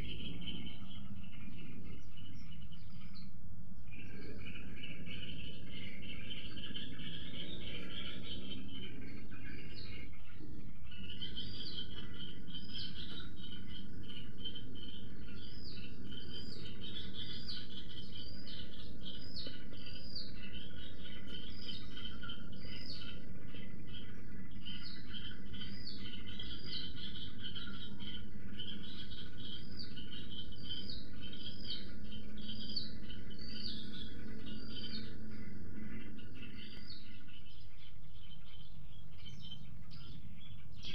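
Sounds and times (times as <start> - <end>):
songbirds calling: 0.0 - 40.9
steady low background noise: 0.0 - 40.9.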